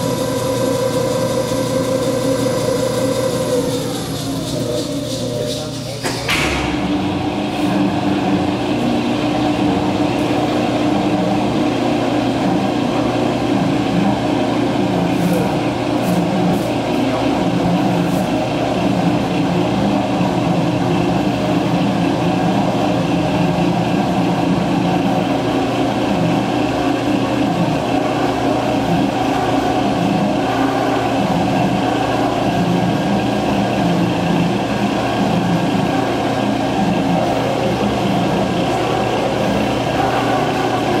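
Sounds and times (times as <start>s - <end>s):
motor and gearing humming: 0.0s - 41.0s.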